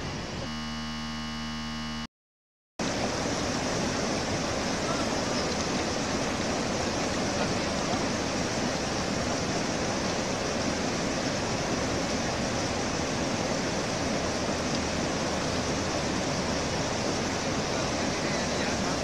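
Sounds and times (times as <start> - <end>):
river rushing over rapids: 2.8 - 19.0.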